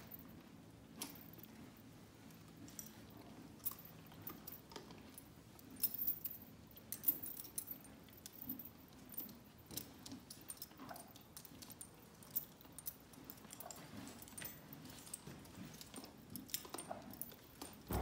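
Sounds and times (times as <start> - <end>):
small clicks and clinks: 0.0 - 18.0.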